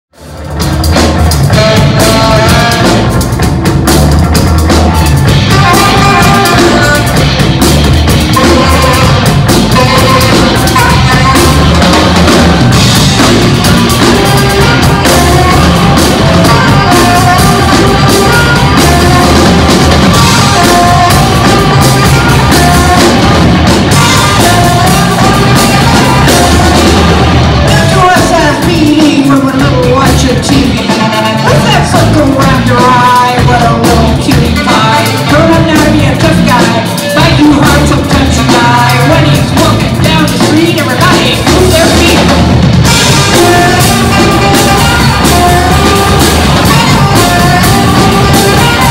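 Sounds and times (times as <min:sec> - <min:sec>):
drum kit: 0:00.1 - 0:48.9
electric guitars: 0:00.1 - 0:48.9
saxophone: 0:00.2 - 0:29.5, 0:30.7 - 0:48.9.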